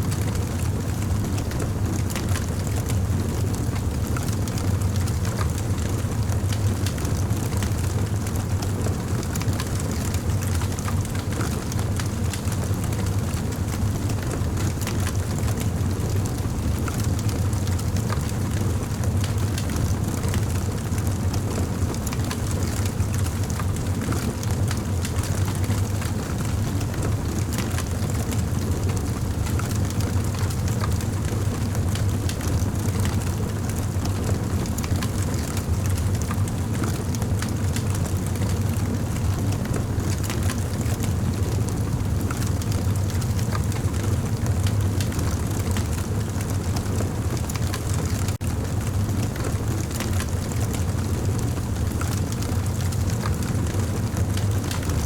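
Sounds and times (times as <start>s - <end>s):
low rumble of flames: 0.0s - 55.0s
fire crackles and pops: 0.2s - 55.0s.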